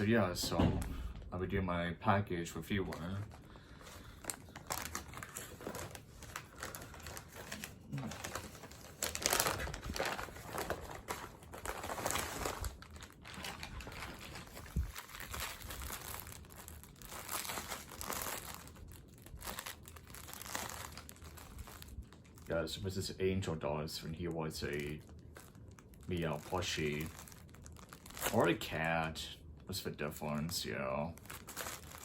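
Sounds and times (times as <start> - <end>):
packaging crinkling and rustling: 2.5 - 29.2, 30.2 - 32.0.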